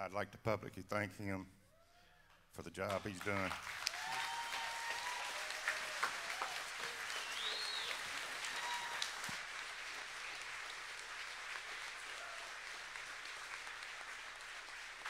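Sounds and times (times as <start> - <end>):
crowd applauding: 2.8 - 15.0.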